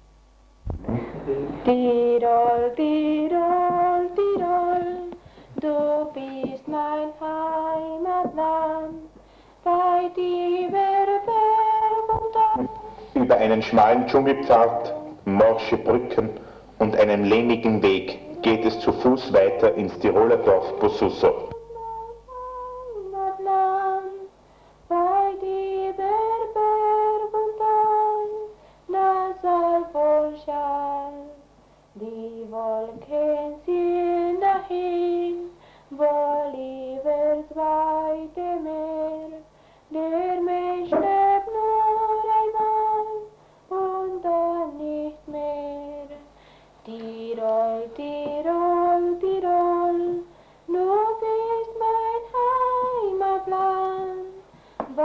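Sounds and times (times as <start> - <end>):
person singing folk song: 0.9 - 24.3, 32.0 - 55.0.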